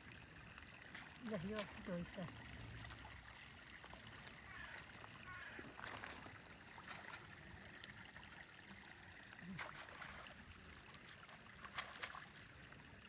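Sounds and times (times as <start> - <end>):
faint running water: 0.0 - 13.0.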